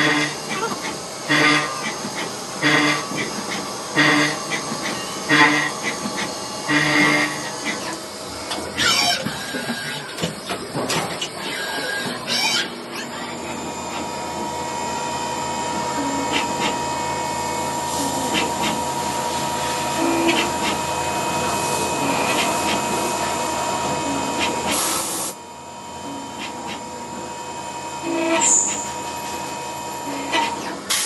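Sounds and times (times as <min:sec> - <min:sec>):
machine whine and hiss: 0:00.0 - 0:31.0.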